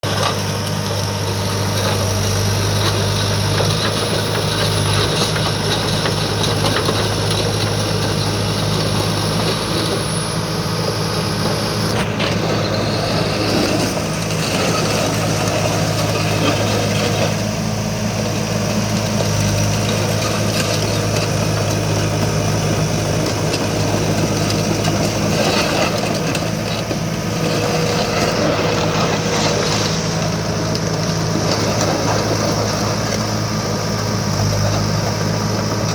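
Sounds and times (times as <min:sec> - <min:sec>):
bulldozer diesel engine running: 0:00.0 - 0:35.9.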